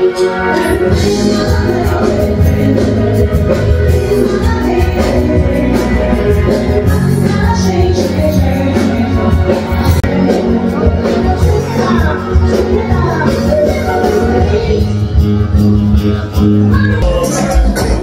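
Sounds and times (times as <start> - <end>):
drum kit: 0.0 - 18.0
electric guitars: 0.0 - 18.0
keyboard: 0.0 - 18.0
person singing: 0.0 - 18.0.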